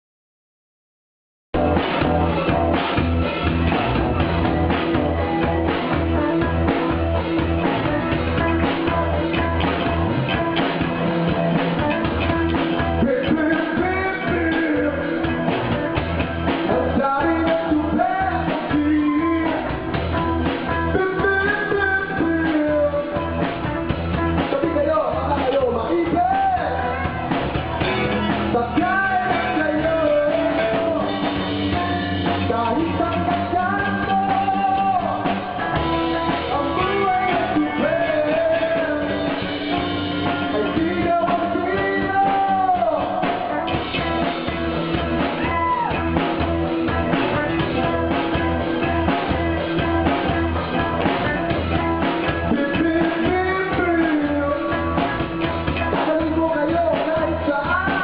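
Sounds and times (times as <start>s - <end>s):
drum kit beat: 1.6s - 58.0s
rock band playing: 1.6s - 58.0s
person singing: 2.1s - 58.0s.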